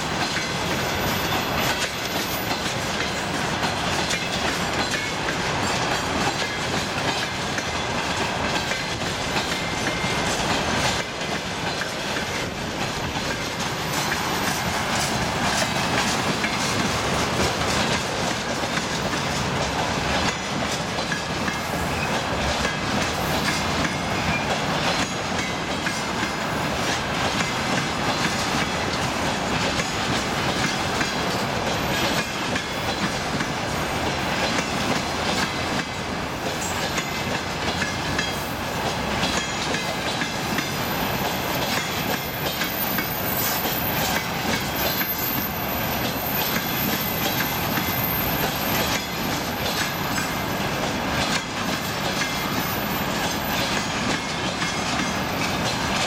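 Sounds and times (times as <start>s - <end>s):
clickety-clack over rail joints: 0.0s - 56.0s
steel wheels rumbling on rails: 0.0s - 56.0s.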